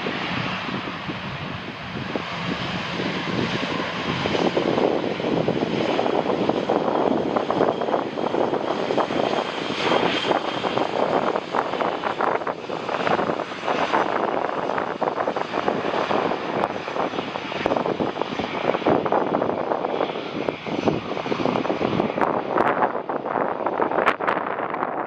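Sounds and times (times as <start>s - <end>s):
jet airliner passing low: 0.0s - 25.0s.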